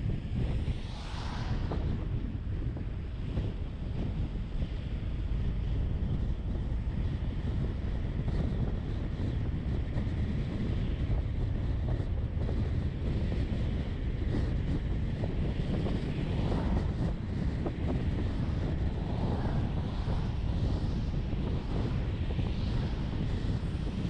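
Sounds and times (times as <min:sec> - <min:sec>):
vehicle engine and tyres rumbling: 0:00.0 - 0:24.0
wind noise on microphone: 0:00.0 - 0:24.0.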